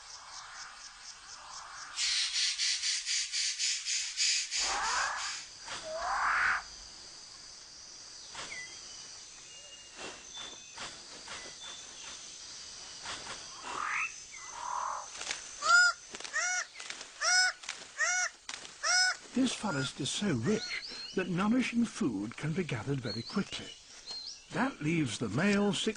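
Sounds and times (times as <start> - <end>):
birds calling: 0.0 - 6.8, 8.0 - 25.9.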